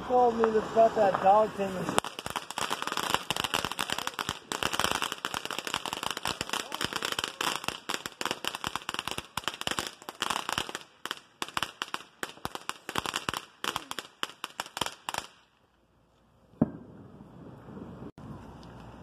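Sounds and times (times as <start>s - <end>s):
ground firework crackling and popping: 0.0s - 15.8s.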